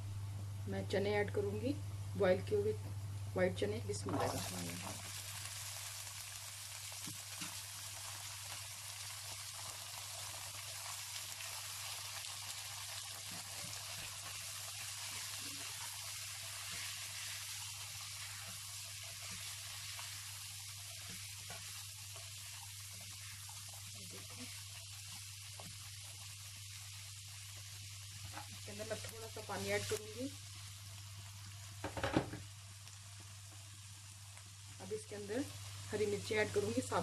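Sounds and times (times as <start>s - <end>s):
food sizzling in oil: 4.0s - 37.0s.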